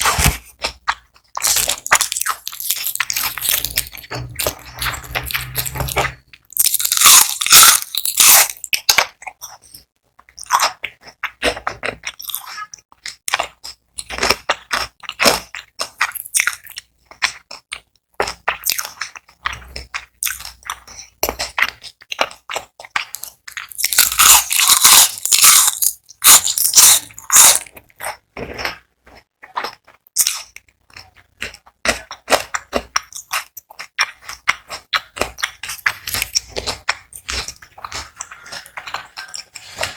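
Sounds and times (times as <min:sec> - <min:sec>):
chewing crackles: 0:00.0 - 0:39.9
crunchy bites of fried food: 0:00.0 - 0:39.9.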